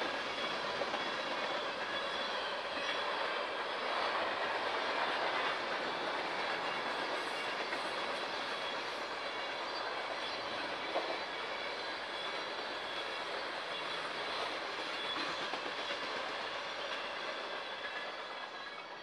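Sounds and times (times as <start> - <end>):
steel wheels rushing on rail: 0.0 - 19.0.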